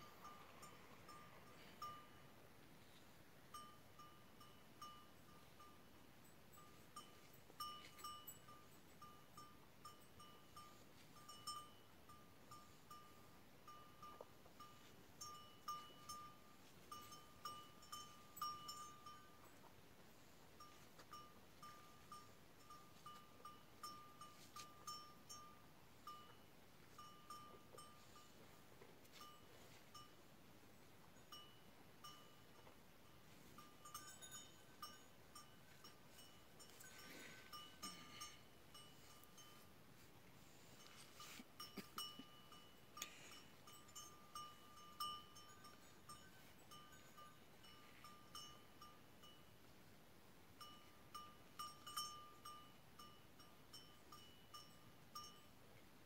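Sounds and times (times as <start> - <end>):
small bell clinking: 0.0 - 30.3, 31.0 - 49.7, 50.5 - 55.8.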